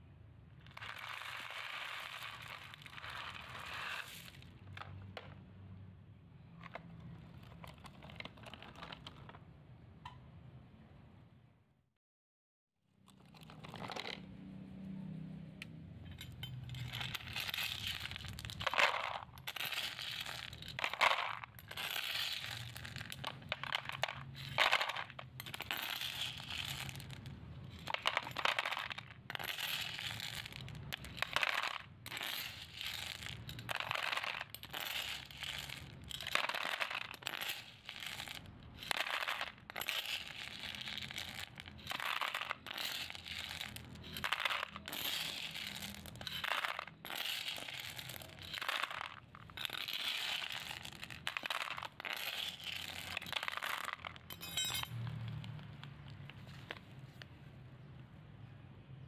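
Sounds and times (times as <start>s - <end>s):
small hard toys clattering: 0.6s - 5.6s, 6.4s - 9.6s, 13.0s - 14.4s, 16.0s - 58.0s.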